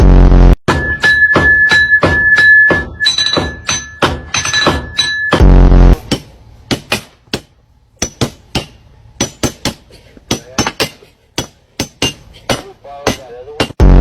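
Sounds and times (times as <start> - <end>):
sharp knocks with high ring: 0.7 - 13.8.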